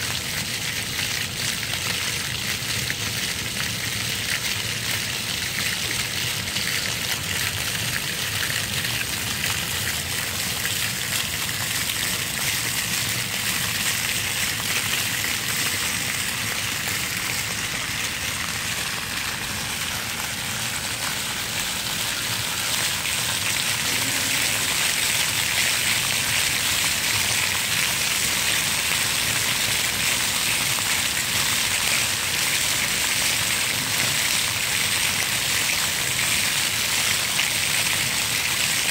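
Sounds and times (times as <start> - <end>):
fountain jets splashing: 0.0 - 38.9.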